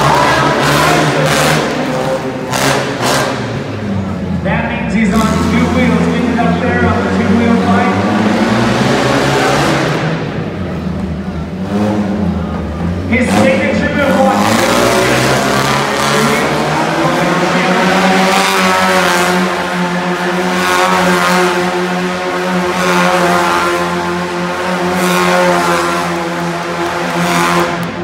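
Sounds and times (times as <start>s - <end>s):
small truck engine running hard: 0.0s - 28.0s.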